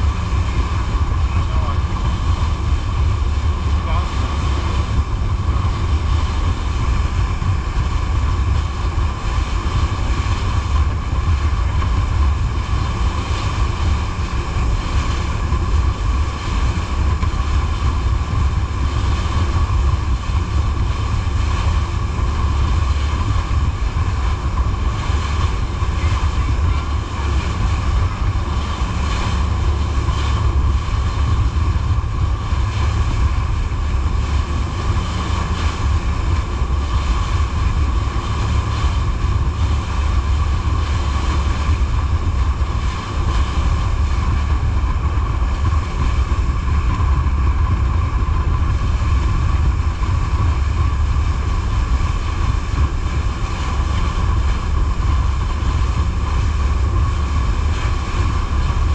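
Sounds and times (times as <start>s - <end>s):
boat engine rumble and whine: 0.0s - 58.9s
water rushing past hull: 0.0s - 58.9s
wind buffeting microphone: 0.0s - 58.9s.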